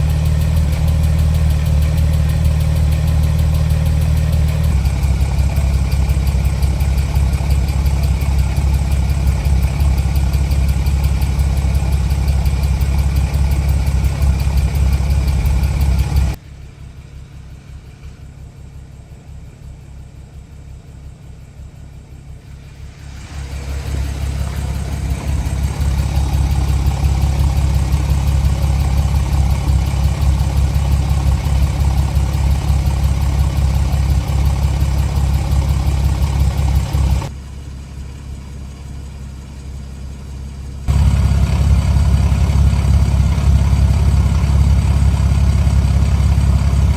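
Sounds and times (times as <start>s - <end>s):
car engine idling with tappet noise: 0.0s - 46.9s.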